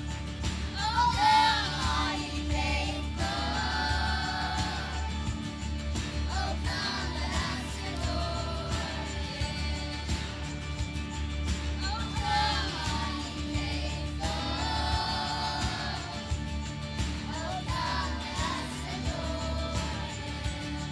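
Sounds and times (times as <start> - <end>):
song with sung vocals: 0.0 - 20.9.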